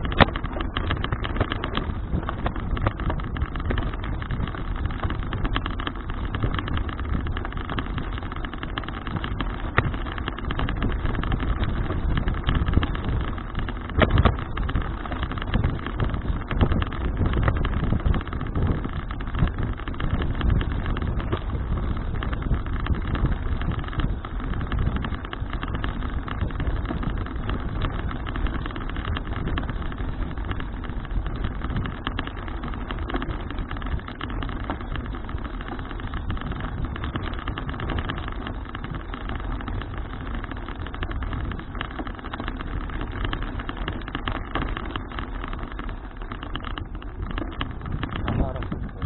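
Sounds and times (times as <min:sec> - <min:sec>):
bicycle road rumble: 0:00.0 - 0:49.0
small rattles and knocks: 0:00.0 - 0:49.0
wind on microphone: 0:00.0 - 0:49.0.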